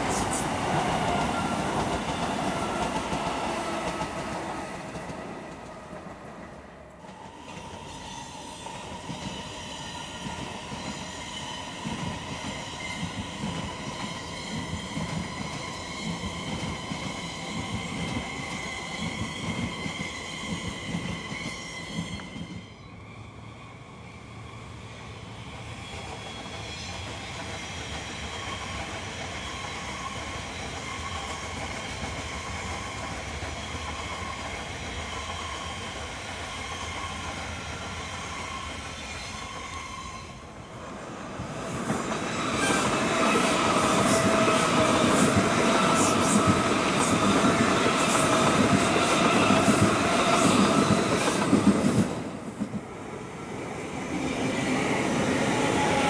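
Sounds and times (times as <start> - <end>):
close train passing with whine: 0.0 - 56.0
distant electric train rumble: 0.0 - 56.0.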